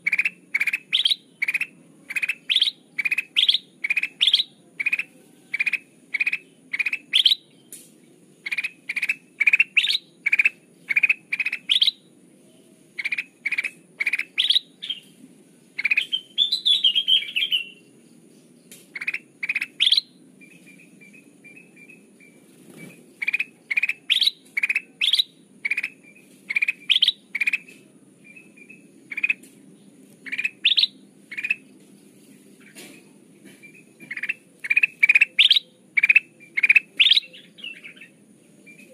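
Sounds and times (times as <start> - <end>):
bird chattering: 0.0 - 7.8, 8.4 - 12.2, 13.0 - 15.1, 15.8 - 18.0, 18.7 - 29.6, 30.2 - 31.8, 32.6 - 38.9
bulbul whistling song: 0.0 - 29.5, 30.2 - 31.8, 33.5 - 38.9.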